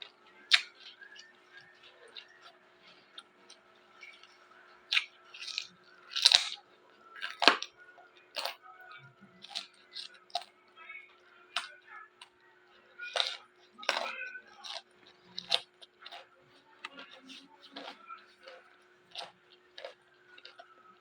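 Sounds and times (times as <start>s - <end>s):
chewing raw vegetables: 0.0s - 21.0s.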